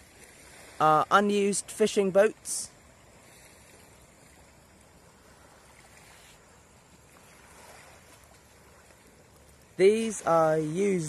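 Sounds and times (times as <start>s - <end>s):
gentle sea at shoreline: 0.0s - 11.0s.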